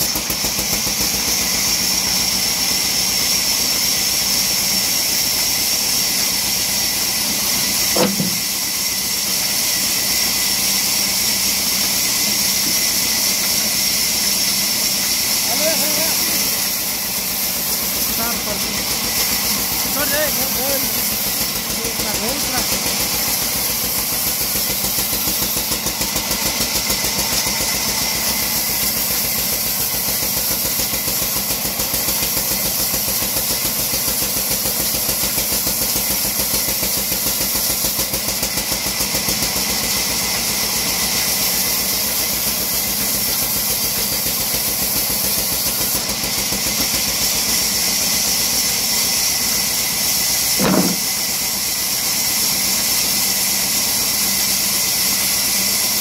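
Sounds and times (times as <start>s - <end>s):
bandsaw cutting log: 0.0s - 56.0s.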